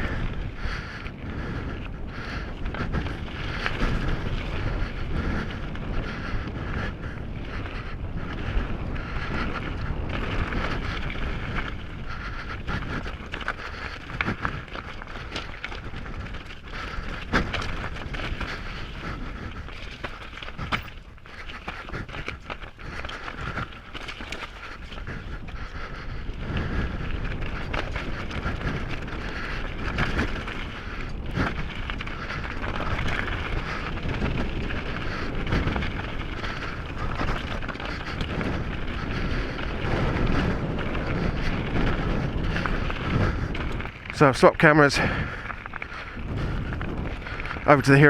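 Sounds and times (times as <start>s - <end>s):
bike frame and chain rattling: 0.0s - 48.0s
bike tyres crunching over stones: 0.0s - 48.0s
wind buffeting microphone: 0.0s - 48.0s.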